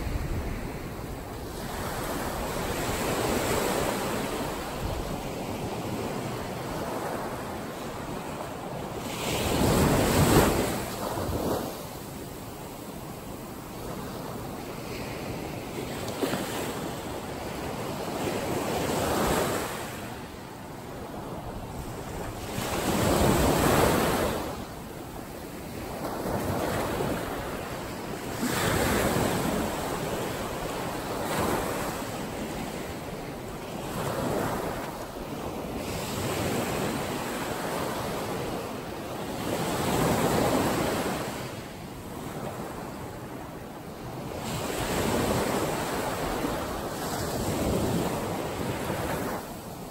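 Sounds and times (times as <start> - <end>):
ocean waves washing up beach: 0.0 - 49.9.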